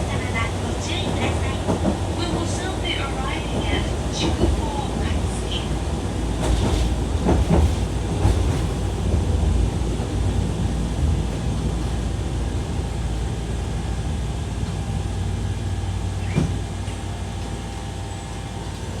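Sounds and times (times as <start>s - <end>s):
railcar clunk: 0.0s - 19.0s
railcar rumbling: 0.0s - 19.0s.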